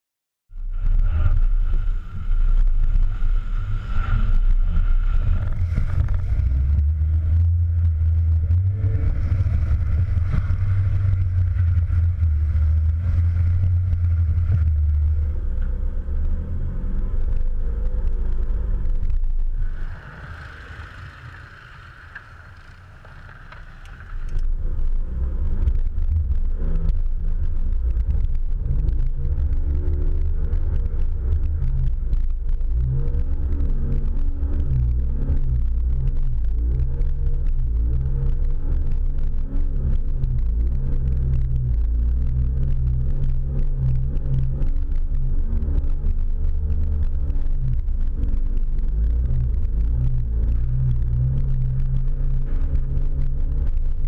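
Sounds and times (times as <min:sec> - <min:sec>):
vehicle engine driving off-road: 0:00.5 - 0:54.0.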